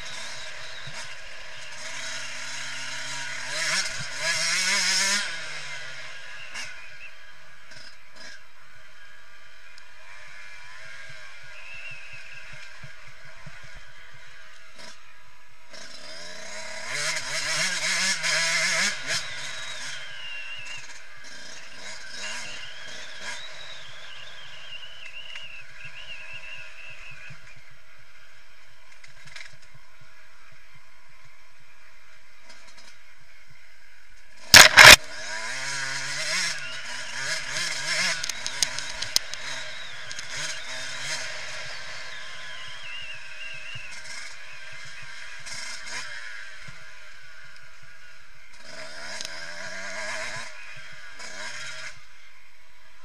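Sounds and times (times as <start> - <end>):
motocross engine revving: 0.0 - 53.0.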